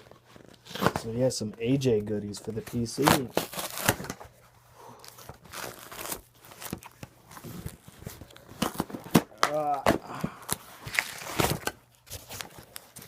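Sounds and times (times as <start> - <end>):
packaging tearing and crinkling: 0.0 - 1.2, 2.6 - 4.2, 5.0 - 13.0.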